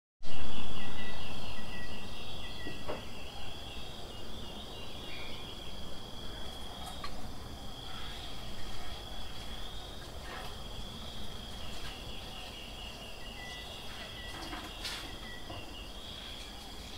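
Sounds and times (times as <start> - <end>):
insects trilling: 0.2 - 16.9.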